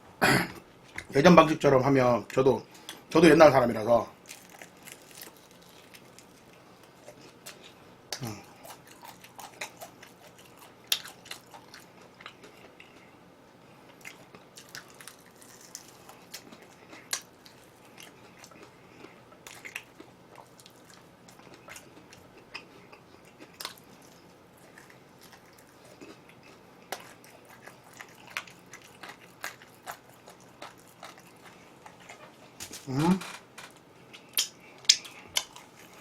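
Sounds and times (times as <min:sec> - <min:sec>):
person chewing food: 0:04.2 - 0:32.9, 0:33.6 - 0:36.0.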